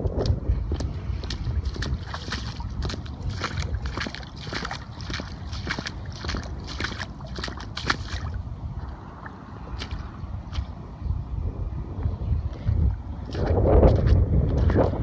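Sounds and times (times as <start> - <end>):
footsteps splashing through water: 0.0 - 10.8, 12.5 - 15.0
wind rumbling on microphone: 0.0 - 15.0.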